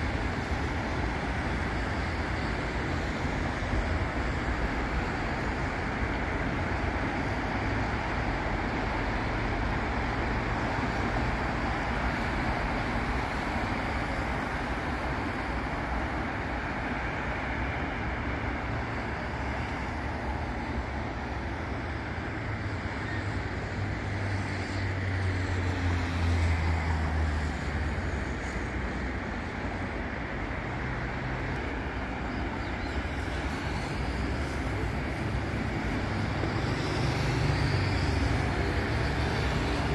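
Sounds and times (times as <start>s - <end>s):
heavy vehicle engine hum: 0.0s - 39.9s
passing cars and tyre noise: 0.0s - 39.9s.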